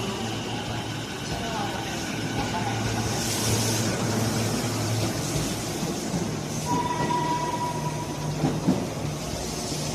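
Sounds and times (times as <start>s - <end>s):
electric train hum: 0.0s - 9.9s
rail noise: 0.0s - 9.9s.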